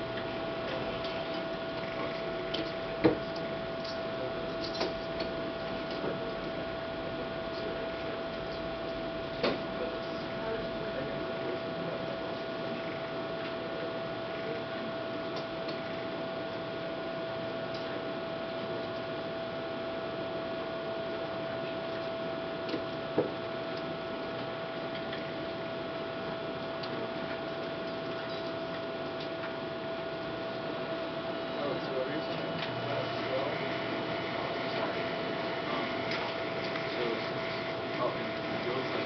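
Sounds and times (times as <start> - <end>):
high whine: 0.0 - 39.0
mechanical hum and hiss: 0.0 - 39.0.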